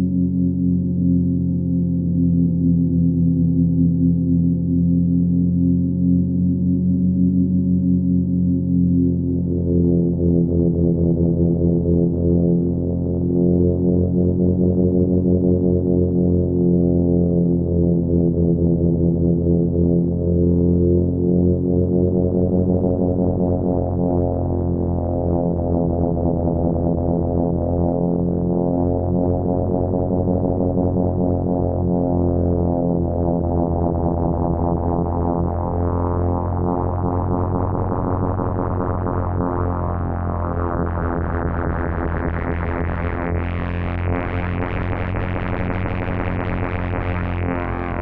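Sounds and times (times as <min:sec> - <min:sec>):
synthesizer low droning chord: 0:00.0 - 0:48.0.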